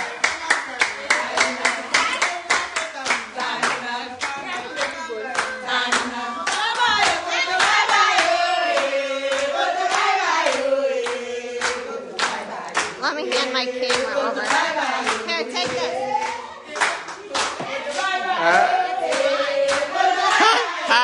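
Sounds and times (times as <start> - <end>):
hands clapping in rhythm: 0.0 - 21.0
women singing together: 0.0 - 21.0.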